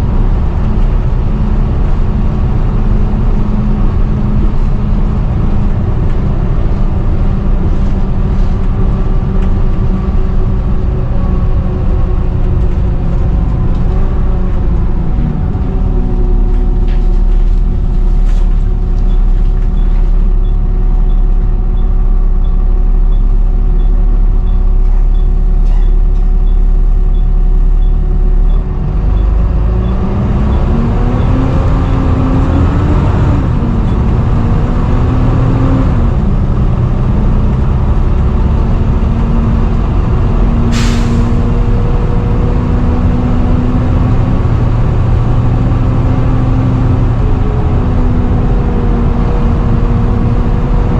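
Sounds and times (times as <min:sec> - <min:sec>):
bus engine: 0:00.0 - 0:50.9.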